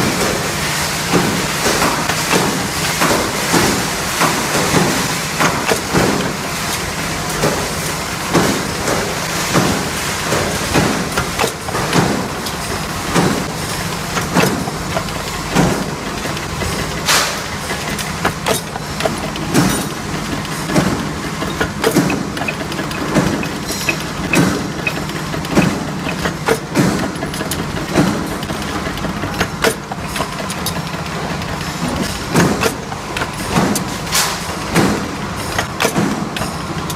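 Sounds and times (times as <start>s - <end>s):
machine humming: 0.0s - 36.9s.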